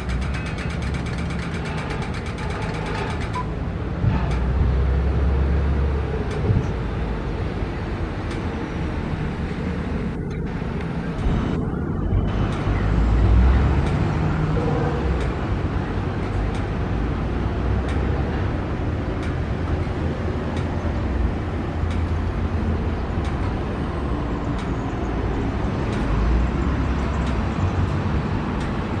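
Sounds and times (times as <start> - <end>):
city traffic rumble: 0.0 - 29.0.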